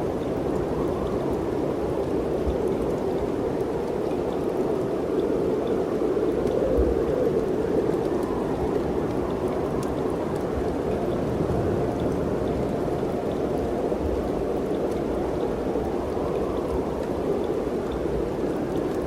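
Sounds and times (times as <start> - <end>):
wind blowing through trees: 0.0 - 19.0.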